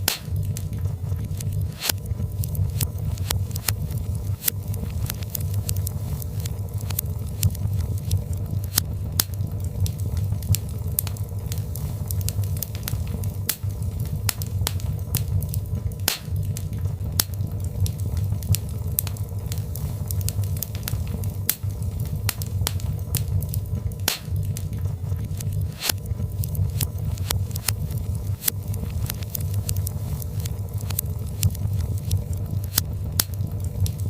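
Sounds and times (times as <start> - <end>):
logs crackling in a fireplace: 0.0 - 34.0.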